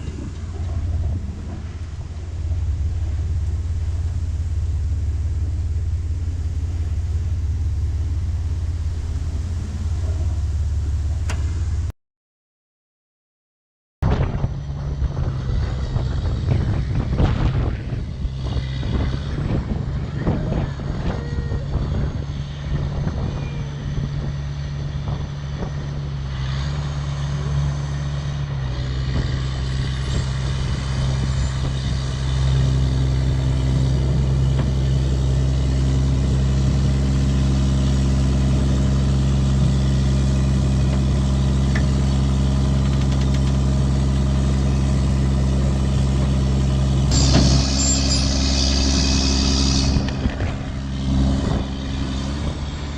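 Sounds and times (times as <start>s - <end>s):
vehicle engine running: 0.0s - 11.9s, 14.6s - 52.9s.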